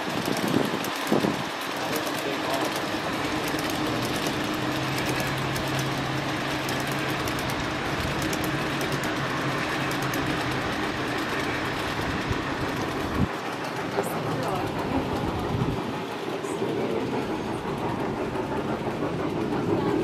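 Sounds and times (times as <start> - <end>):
model train motor whir: 0.0 - 20.0
wheels clicking on rails: 0.0 - 20.0.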